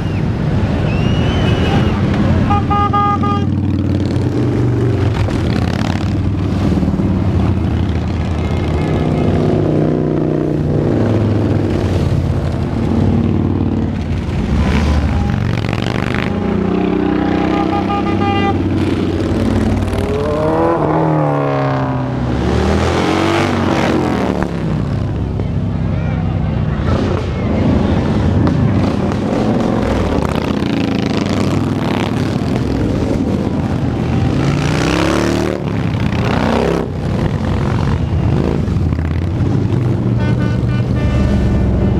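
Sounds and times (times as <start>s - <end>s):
motorcycles riding past: 0.0s - 41.9s.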